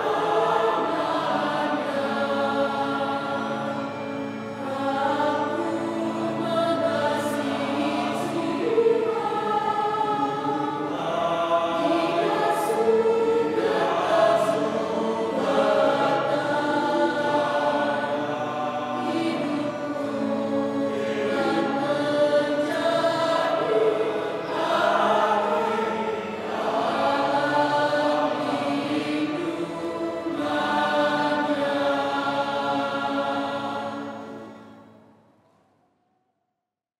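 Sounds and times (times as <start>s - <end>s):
choir singing a hymn: 0.0s - 35.0s.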